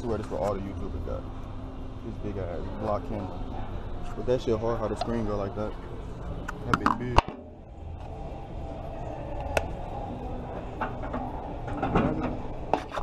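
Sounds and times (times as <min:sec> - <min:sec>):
faint indistinct sounds: 0:00.0 - 0:13.0
steady low hum: 0:00.0 - 0:13.0.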